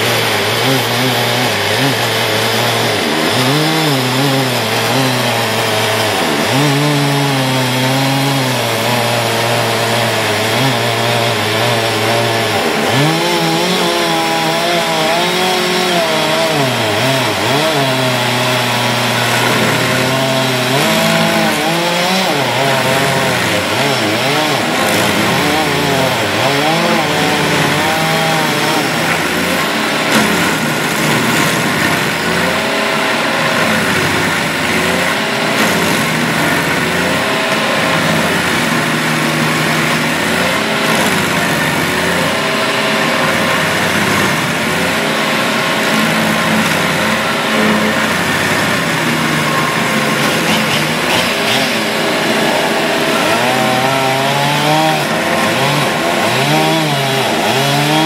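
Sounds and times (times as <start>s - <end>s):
cutter wheel grinding wood: 0.0s - 58.0s
stump grinder engine labouring: 0.0s - 58.0s.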